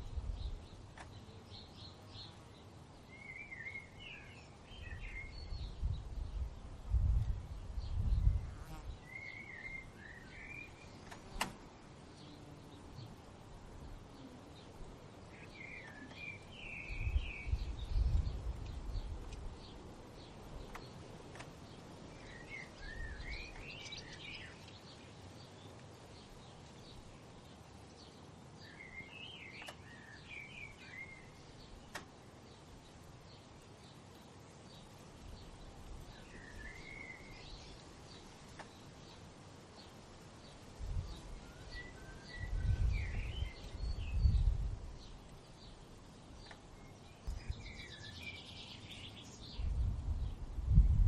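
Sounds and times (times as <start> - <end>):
outdoor background noise: 0.0 - 51.0.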